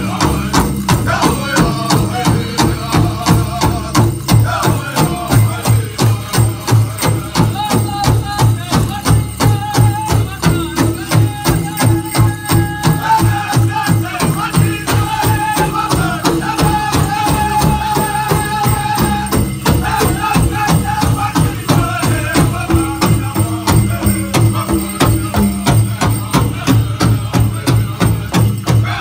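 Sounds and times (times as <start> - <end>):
big drum beating: 0.0 - 29.0
group singing in high voices: 0.0 - 29.0.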